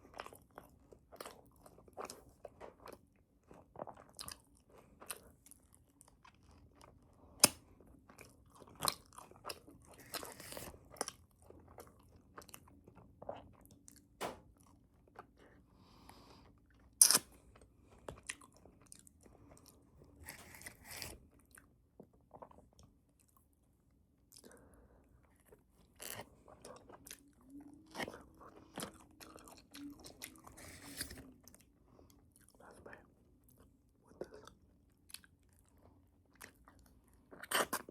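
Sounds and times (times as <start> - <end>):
chewing and crunching bagel: 0.0 - 37.9.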